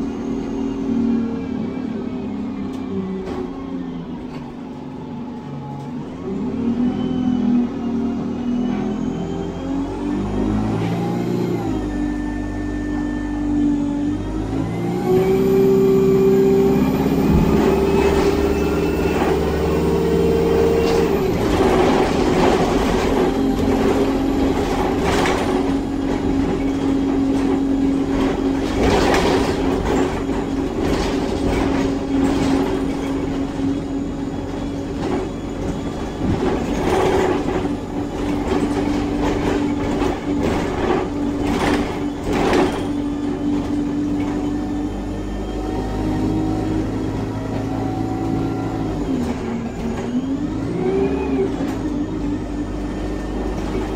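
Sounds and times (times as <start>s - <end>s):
bus engine and gearbox whine: 0.0s - 53.9s.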